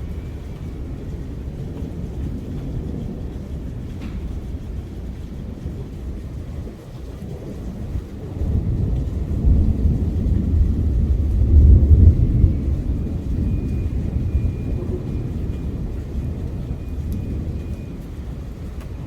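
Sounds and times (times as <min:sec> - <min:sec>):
rolling thunder: 0:00.0 - 0:19.0.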